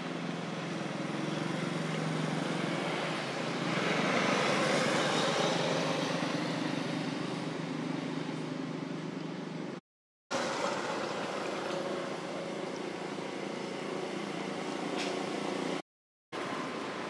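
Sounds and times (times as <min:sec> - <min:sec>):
vehicle engine drone: 0:00.0 - 0:15.8.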